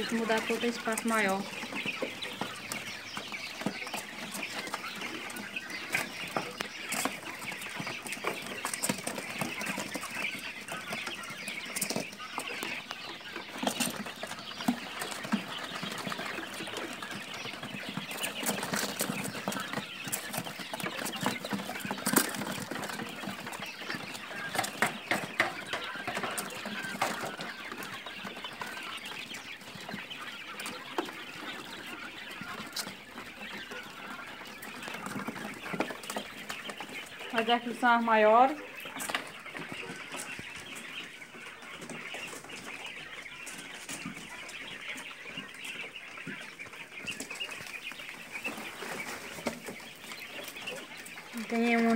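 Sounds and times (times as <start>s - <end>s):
quail chirping: 0.0s - 51.9s.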